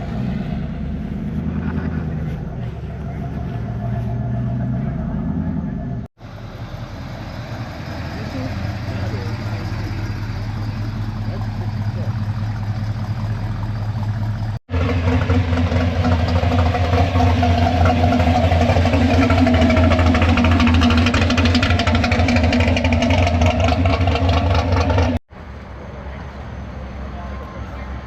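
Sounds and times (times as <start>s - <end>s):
car engine idling: 0.0s - 25.2s.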